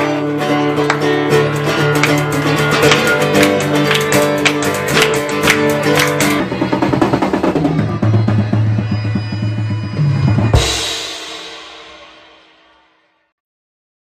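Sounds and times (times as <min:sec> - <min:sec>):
acoustic guitar strumming: 0:00.0 - 0:12.3.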